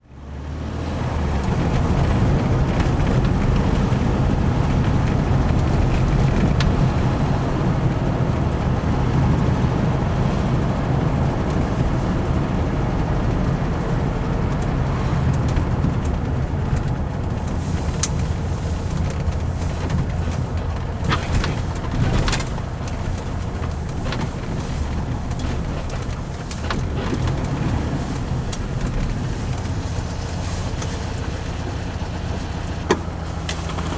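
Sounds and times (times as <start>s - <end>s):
car engine rumbling: 0.0s - 33.9s.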